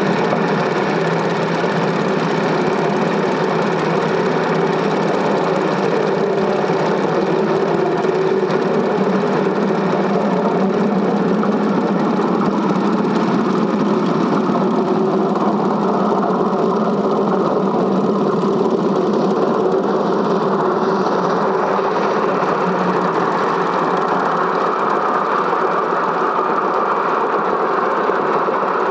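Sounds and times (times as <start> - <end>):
film projector whirring: 0.0 - 28.9.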